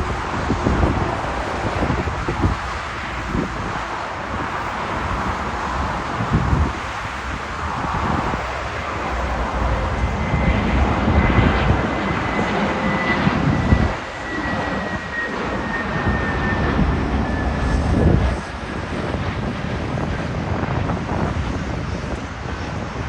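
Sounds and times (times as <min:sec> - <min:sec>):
jet plane flying overhead: 0:00.0 - 0:23.0
wind on microphone: 0:00.0 - 0:23.0.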